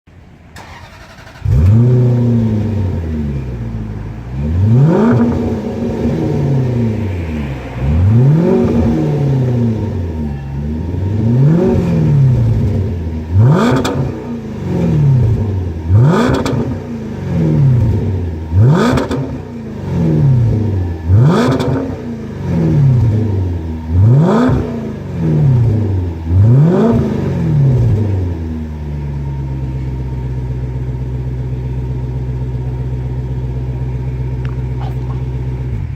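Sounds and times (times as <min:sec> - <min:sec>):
car engine revving: 0:00.6 - 0:35.9.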